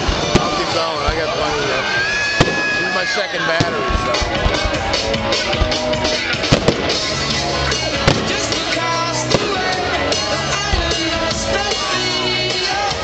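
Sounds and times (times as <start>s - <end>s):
firework bangs: 0.0s - 11.9s
loud show music: 0.0s - 13.0s.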